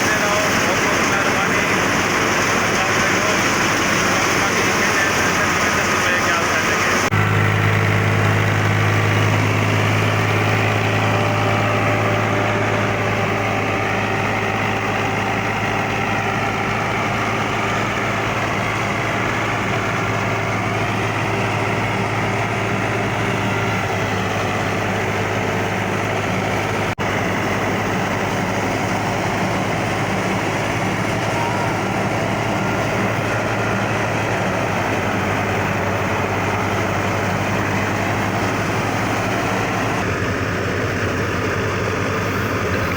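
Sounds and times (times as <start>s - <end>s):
thresher mechanical noise: 0.0s - 42.8s
tractor engine humming: 0.0s - 42.9s.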